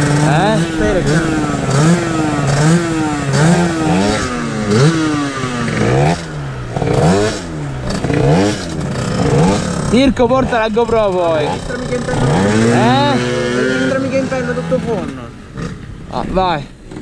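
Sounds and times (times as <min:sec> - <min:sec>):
moped engine revving: 0:00.0 - 0:17.0.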